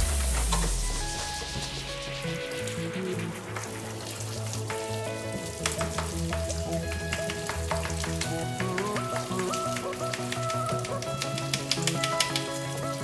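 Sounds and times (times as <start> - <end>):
crackling hiss with clicks: 0.0 - 13.0
electronic music with bass: 0.0 - 13.0.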